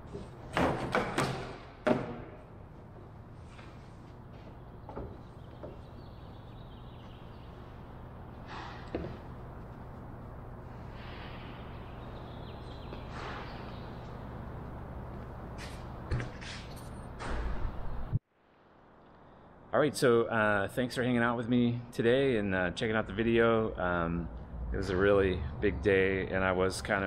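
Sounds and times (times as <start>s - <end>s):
low workshop hum: 0.0s - 27.0s.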